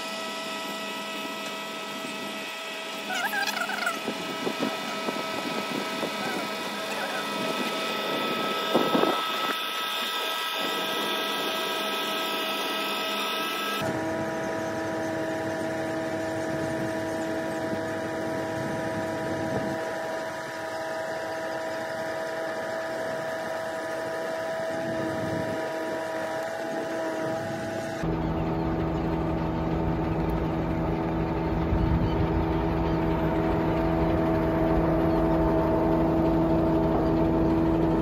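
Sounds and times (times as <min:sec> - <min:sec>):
crane engine humming and whining: 0:00.0 - 0:38.0.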